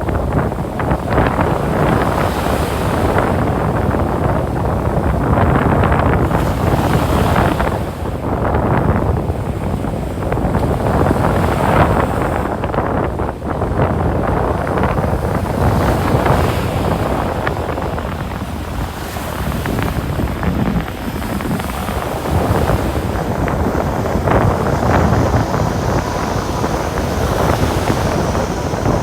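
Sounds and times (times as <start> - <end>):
ocean surf on sandy beach: 0.0 - 29.0
wind buffeting microphone: 0.0 - 29.0.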